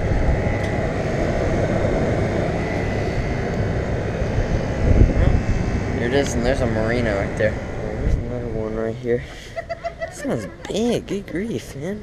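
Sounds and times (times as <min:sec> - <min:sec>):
air conditioner fan rushing: 0:00.0 - 0:12.0.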